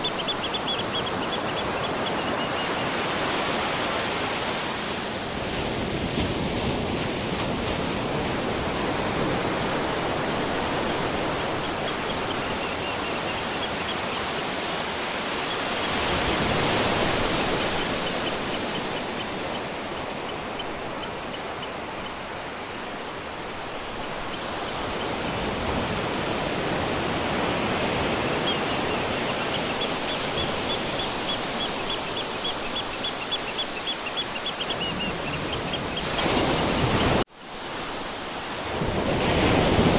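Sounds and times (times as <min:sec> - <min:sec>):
ocean surf washing: 0:00.0 - 0:39.9.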